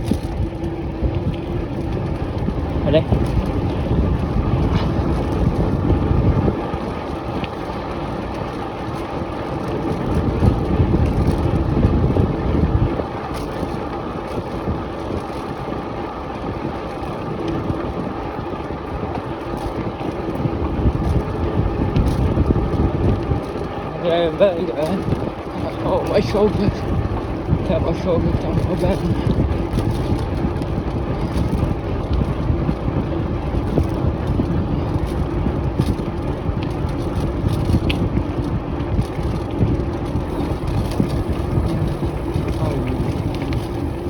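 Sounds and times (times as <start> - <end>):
road rumble: 0.0 - 44.0
wind rushing over microphone: 0.0 - 44.0.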